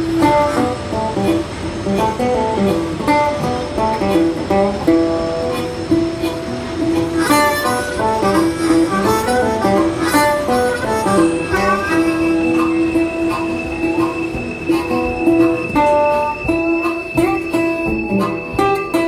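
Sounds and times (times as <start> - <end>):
harmonica over guitar music: 0.0 - 19.0.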